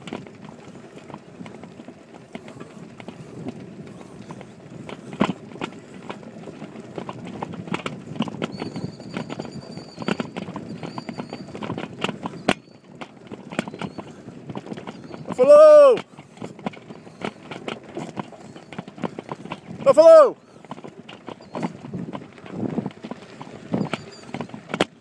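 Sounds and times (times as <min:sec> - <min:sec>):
tyre and wind rumble: 0:00.0 - 0:25.0.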